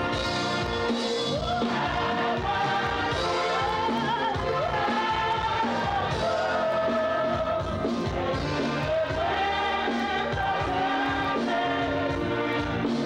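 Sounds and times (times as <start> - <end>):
instrumental accompaniment: 0.0 - 13.0
women singing gospel song: 0.0 - 13.0.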